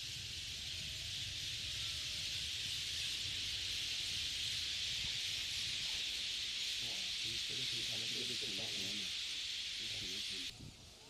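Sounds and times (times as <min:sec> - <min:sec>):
flock of starlings calling: 0:00.0 - 0:10.5.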